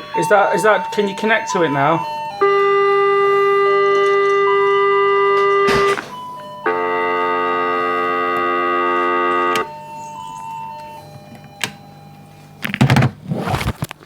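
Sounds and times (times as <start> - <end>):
toy electronic organ chord: 0.0 - 12.7.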